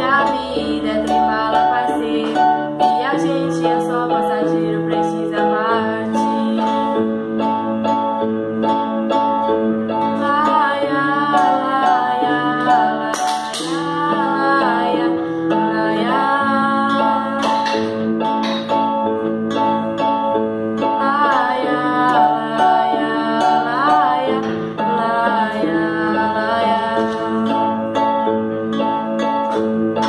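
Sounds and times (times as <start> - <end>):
girl singing: 0.0 - 7.9, 9.8 - 18.5, 20.7 - 28.3
acoustic guitar: 0.0 - 30.0
electronic keyboard: 0.0 - 30.0.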